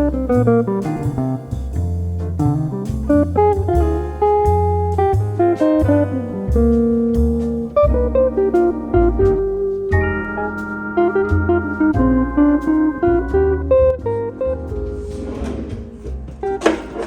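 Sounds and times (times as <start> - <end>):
steady bass line: 0.0 - 16.7
plucked guitar: 0.0 - 17.0.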